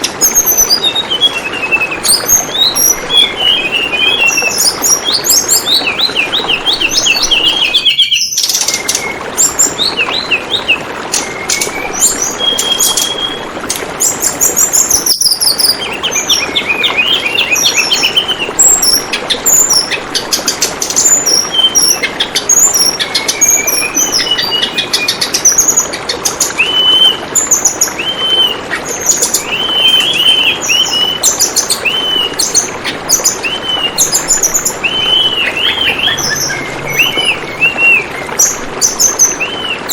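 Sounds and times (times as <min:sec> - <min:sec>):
birds chirping and singing: 0:00.0 - 0:39.9
running water babbling: 0:00.0 - 0:39.9.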